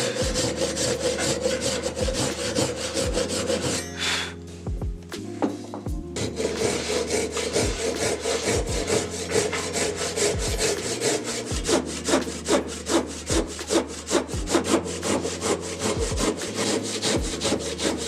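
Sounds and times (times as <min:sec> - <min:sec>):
hand saw rasping through wood: 0:00.0 - 0:04.4, 0:06.1 - 0:18.0.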